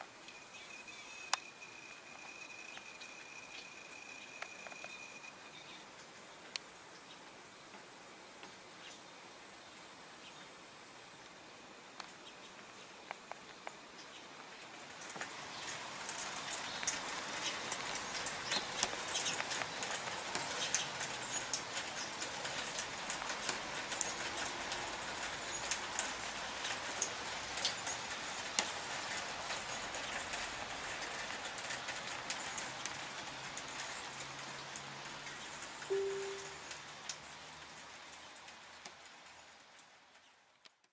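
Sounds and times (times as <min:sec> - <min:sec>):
raindrops pattering: 0:00.0 - 0:08.6, 0:11.9 - 0:40.9
rain falling: 0:00.0 - 0:09.4, 0:10.0 - 0:40.9.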